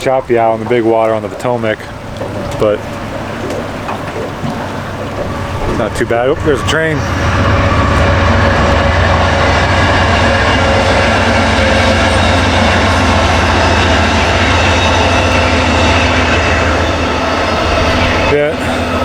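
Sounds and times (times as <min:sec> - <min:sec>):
train passing: 0:01.8 - 0:19.0.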